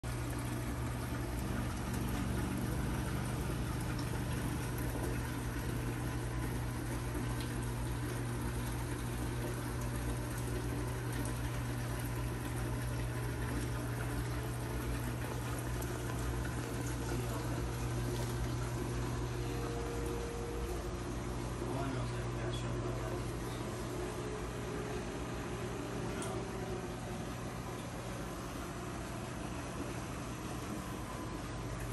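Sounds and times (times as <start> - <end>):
low pump hum: 0.0 - 31.9.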